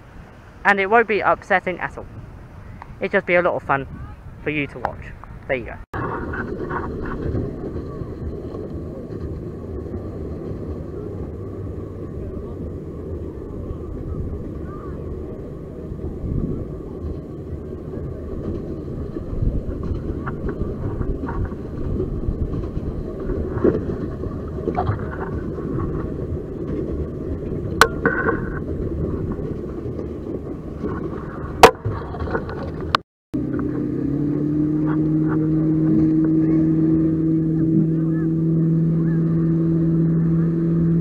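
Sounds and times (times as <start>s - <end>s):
muffled water and wind rumble: 0.0s - 41.0s.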